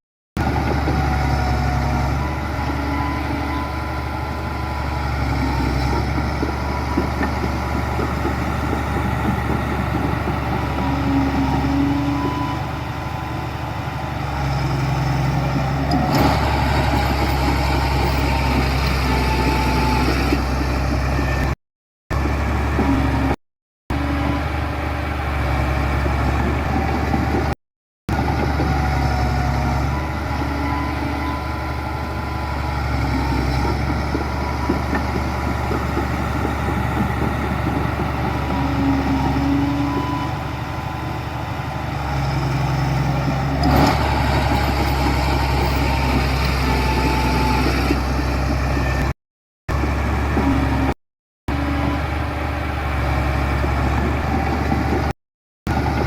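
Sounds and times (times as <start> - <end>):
heavy diesel engines running: 0.4 - 56.0.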